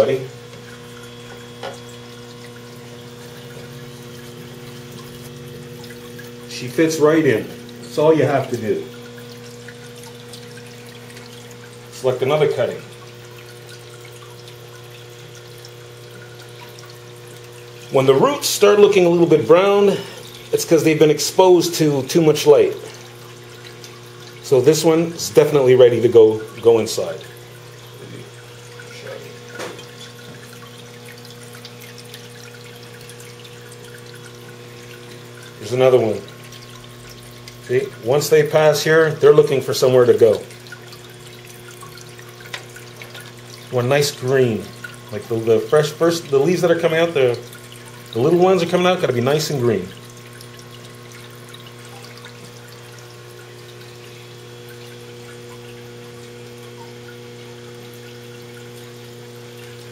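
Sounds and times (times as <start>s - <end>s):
pump low hum: 0.0s - 59.9s
water splashing and trickling: 0.0s - 59.9s.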